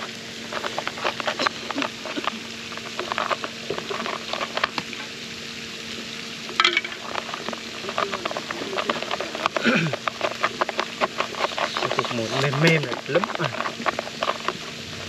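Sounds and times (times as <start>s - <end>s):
faint steady hum: 0.0s - 15.0s
hands crackling bait mix: 0.0s - 15.0s.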